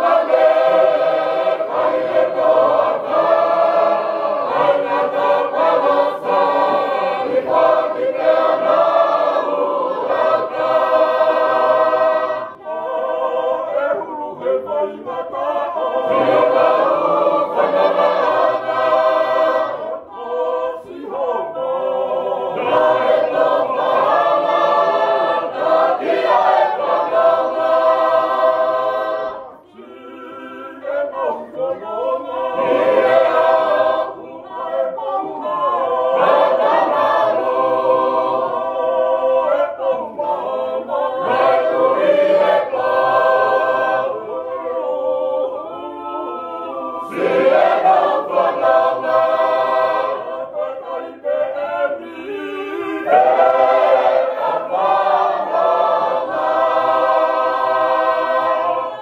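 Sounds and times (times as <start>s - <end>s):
choir singing unaccompanied hymn: 0.0s - 59.0s.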